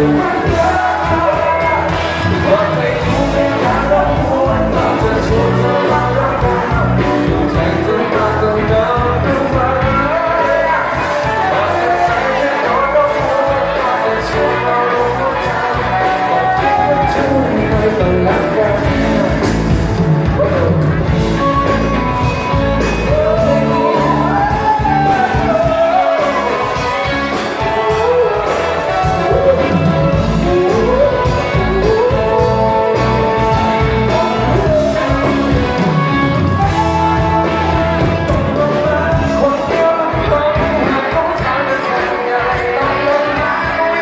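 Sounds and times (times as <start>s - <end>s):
bass guitar: 0.0s - 44.0s
electric guitar: 0.0s - 44.0s
person singing: 0.0s - 44.0s
rock drum beat: 0.0s - 44.0s.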